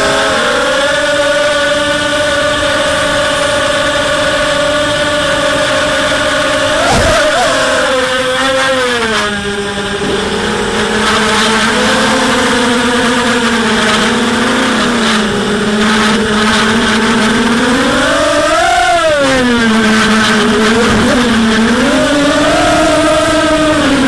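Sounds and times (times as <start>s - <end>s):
quadcopter motors buzzing whine: 0.0s - 24.0s.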